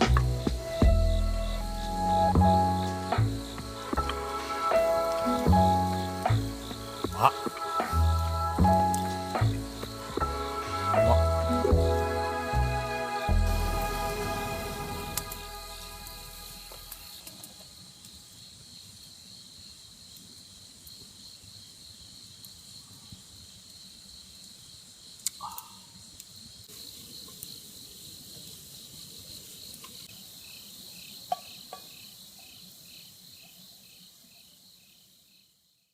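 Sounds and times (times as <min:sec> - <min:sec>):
crickets chirping: 0:00.0 - 0:35.9.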